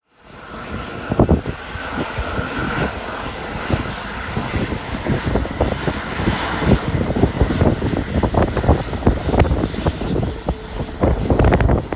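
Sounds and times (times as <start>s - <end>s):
jet engines roaring: 0.0s - 11.9s
low rumbles: 0.3s - 11.9s.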